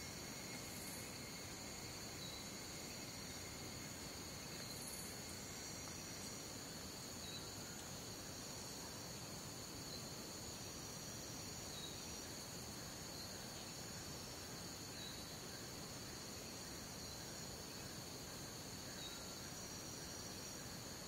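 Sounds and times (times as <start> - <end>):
faint background hiss: 0.0 - 21.0
night insects trilling: 0.0 - 21.0.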